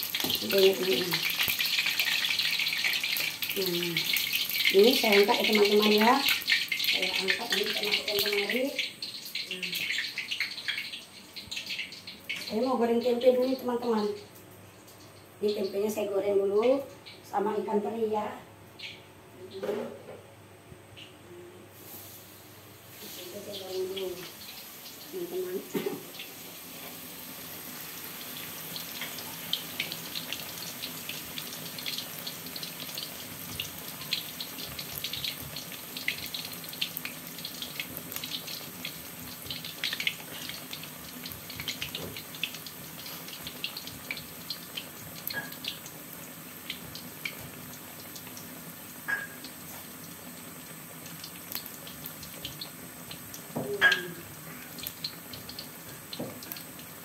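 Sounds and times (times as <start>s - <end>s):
food sizzling in hot oil: 0.0s - 19.1s, 21.7s - 57.0s.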